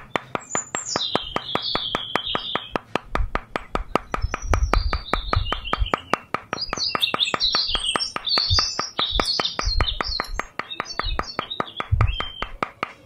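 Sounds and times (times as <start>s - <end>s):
dull low thuds: 0.0s - 12.6s
birds chirping: 0.0s - 13.0s
fast ticking: 0.0s - 13.0s.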